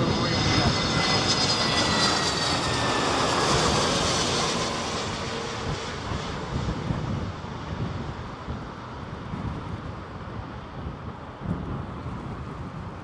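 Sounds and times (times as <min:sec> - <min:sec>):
jet airliner engine: 0:00.0 - 0:13.0
wind rumbling on microphone: 0:00.0 - 0:13.0.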